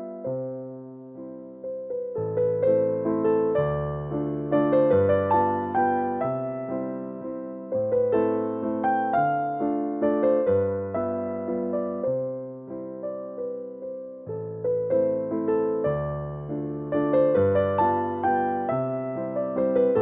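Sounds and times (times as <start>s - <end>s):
electric piano melody: 0.0s - 20.0s.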